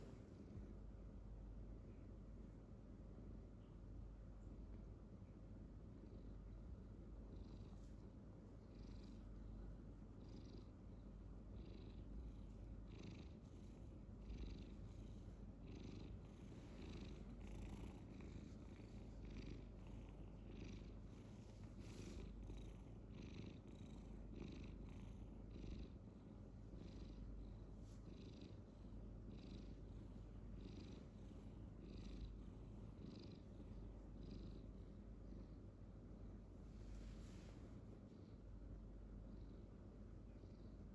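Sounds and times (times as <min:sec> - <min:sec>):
cat purring: 0:05.8 - 0:40.9.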